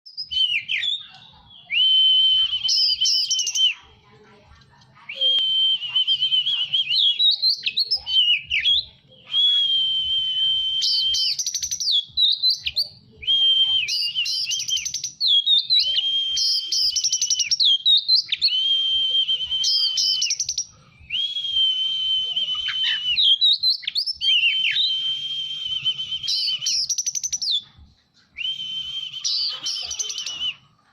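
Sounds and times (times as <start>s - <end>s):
songbird singing buzzy whistled phrases: 0.1s - 4.0s, 5.1s - 27.8s, 28.4s - 30.8s.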